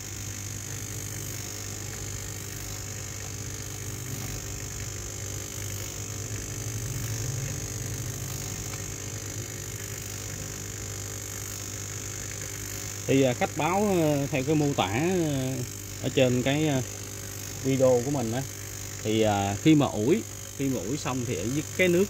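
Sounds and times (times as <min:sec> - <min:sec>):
water pump buzzing: 0:00.0 - 0:22.0.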